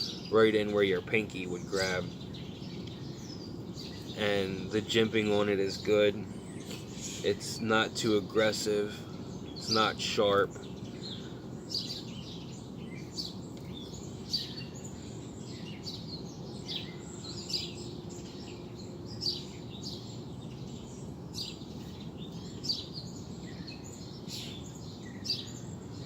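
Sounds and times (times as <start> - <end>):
small birds chirping: 0.0 - 26.0
steady outdoor background hum: 0.0 - 26.0.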